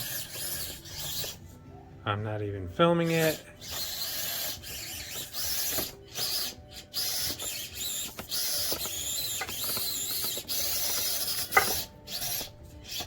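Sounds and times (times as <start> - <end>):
small electric motor whining: 0.0 - 1.4, 3.1 - 13.0.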